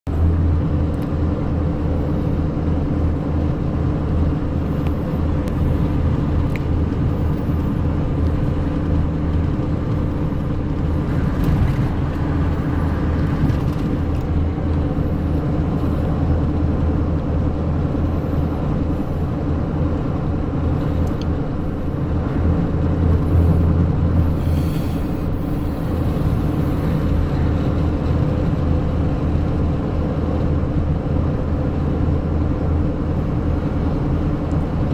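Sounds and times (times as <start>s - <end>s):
engine and tyre drone: 0.1s - 34.9s.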